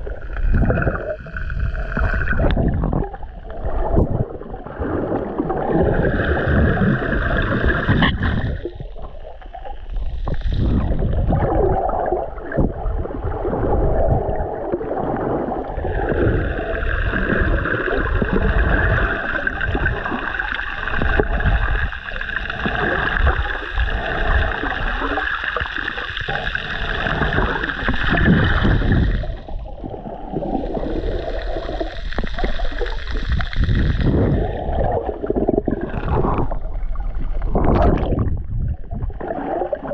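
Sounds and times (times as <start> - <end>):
low rumble of moving water: 0.0 - 39.9
muffled underwater sloshing: 0.0 - 39.9.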